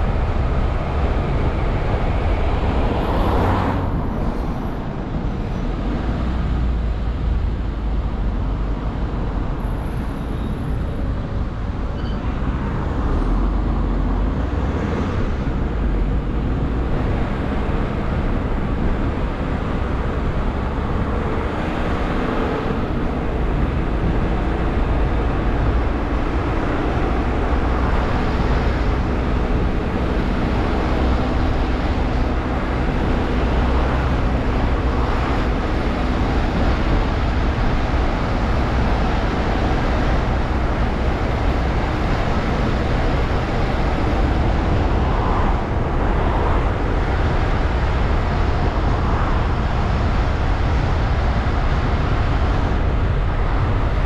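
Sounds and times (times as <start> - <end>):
car engine rumble: 0.0 - 54.0
tyre road noise: 0.0 - 54.0.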